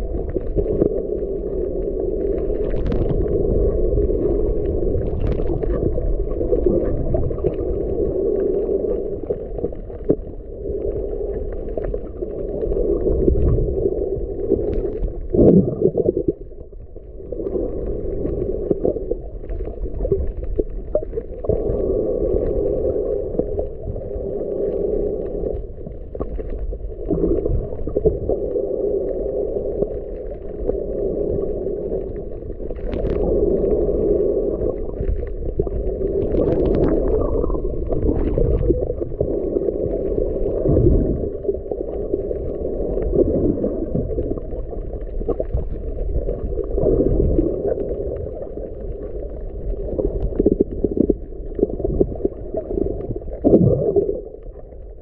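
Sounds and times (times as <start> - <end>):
faint crackles: 0.0 - 55.0
muffled underwater water rushing: 0.0 - 55.0.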